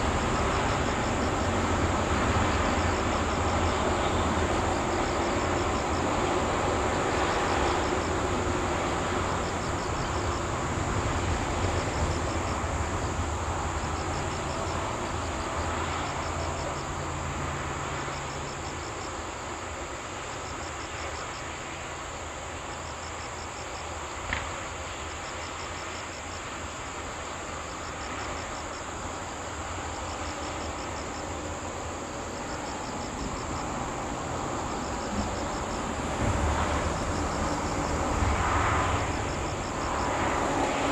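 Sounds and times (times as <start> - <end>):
insects chirping in pulses: 0.0 - 40.9.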